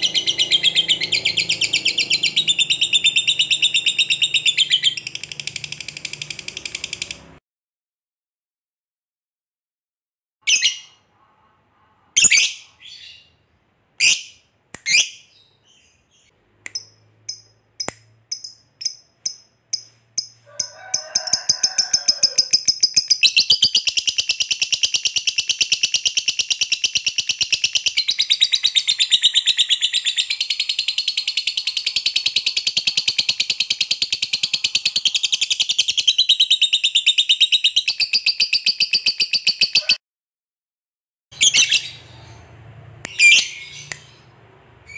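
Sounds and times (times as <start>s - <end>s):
lovebird chirping and trilling: 0.0s - 7.3s, 10.4s - 11.1s, 12.2s - 40.0s, 41.4s - 44.9s.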